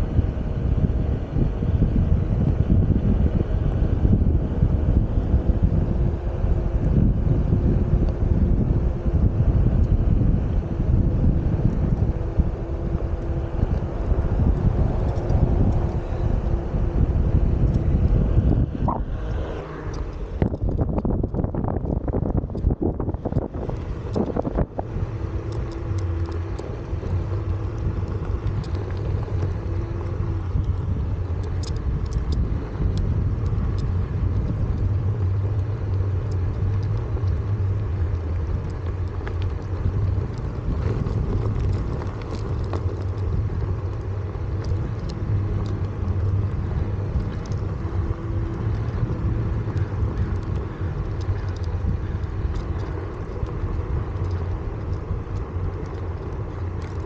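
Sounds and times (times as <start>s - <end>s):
electric board rolling on asphalt: 0.0s - 57.0s.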